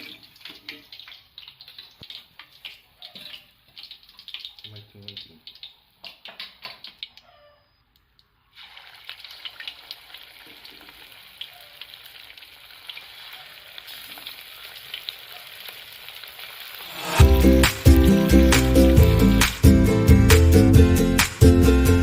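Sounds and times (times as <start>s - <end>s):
chicken frying in hot oil: 0.0s - 7.4s, 8.5s - 19.6s.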